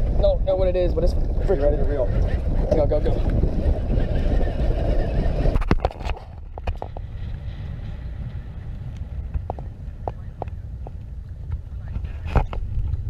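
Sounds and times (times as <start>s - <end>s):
outboard motor rumble: 0.0s - 13.0s
wind on microphone: 0.0s - 13.0s.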